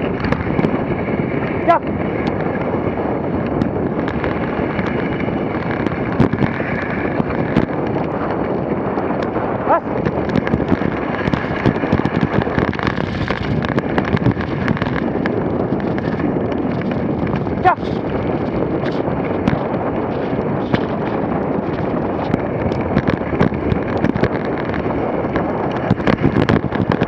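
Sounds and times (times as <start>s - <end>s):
sled clicks and knocks: 0.0s - 27.0s
sled runners scraping on snow: 0.0s - 27.0s
wind on microphone: 0.0s - 27.0s.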